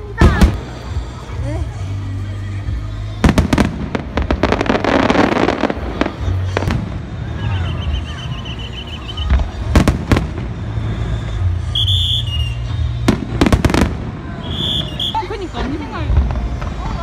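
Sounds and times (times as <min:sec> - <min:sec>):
fireworks bursting with booms: 0:00.1 - 0:01.1, 0:03.2 - 0:08.4, 0:09.1 - 0:17.0.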